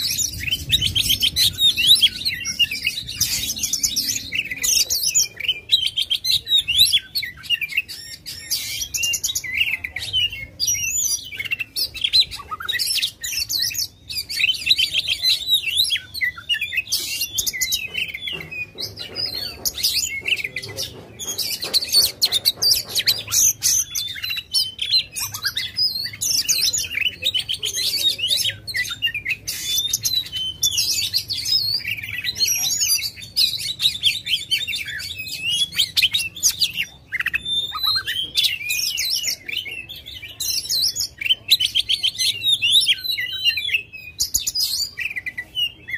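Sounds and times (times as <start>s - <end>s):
bird singing whistles and trills: 0.0s - 45.9s.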